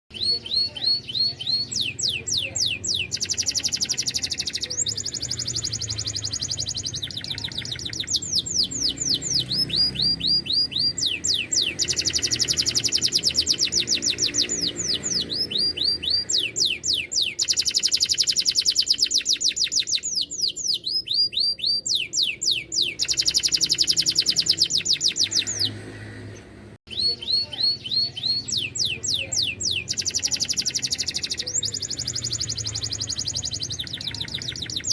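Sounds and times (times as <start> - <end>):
canary singing trills: 0.1 - 26.1, 26.9 - 34.9.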